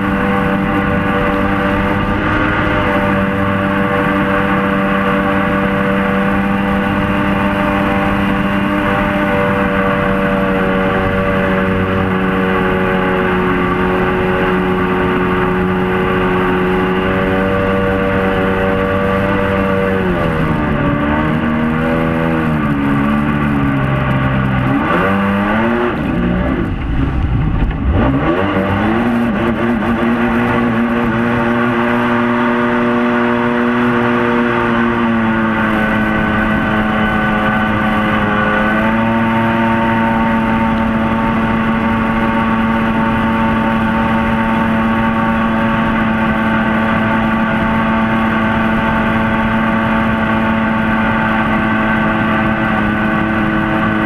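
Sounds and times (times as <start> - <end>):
boat engine running hard: 0.0 - 54.0
wind: 0.0 - 54.0.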